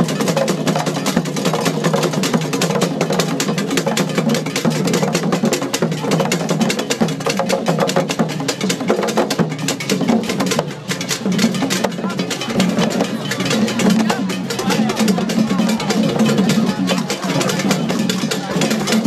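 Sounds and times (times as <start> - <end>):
hand drums fast rhythm: 0.0 - 19.0.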